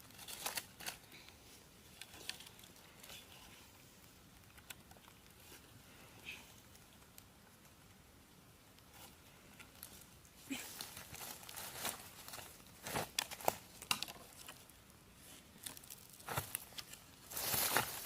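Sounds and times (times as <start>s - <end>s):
rustling and crinkling: 0.0s - 7.8s, 8.7s - 18.0s.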